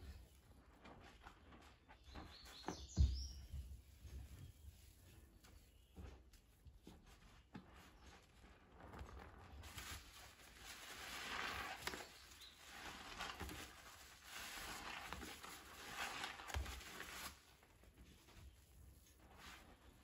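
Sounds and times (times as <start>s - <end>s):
sponge squelching in soapy water: 0.0s - 20.0s.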